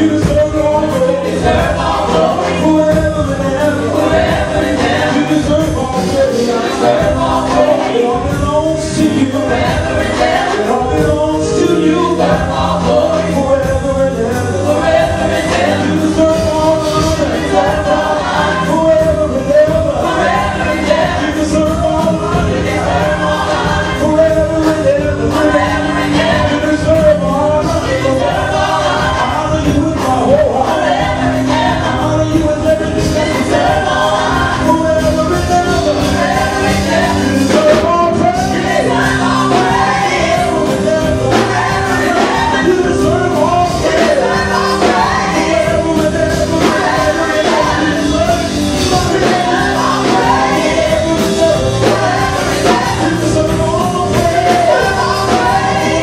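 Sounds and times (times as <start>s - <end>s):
backing vocalists: 0.0s - 56.0s
electric bass: 0.0s - 56.0s
keyboard: 0.0s - 56.0s
man singing gospel: 0.0s - 56.0s.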